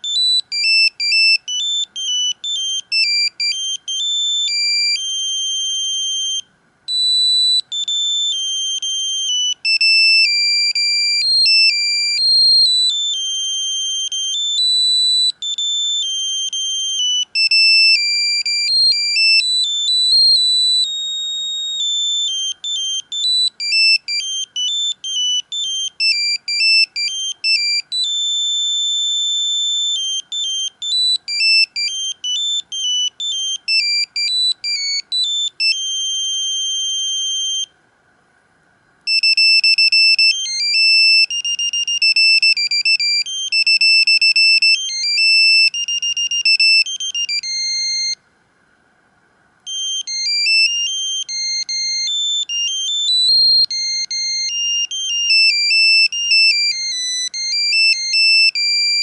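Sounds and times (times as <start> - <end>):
mobile phone ringtone beeping: 0.0 - 37.7, 39.1 - 48.2, 49.7 - 59.0.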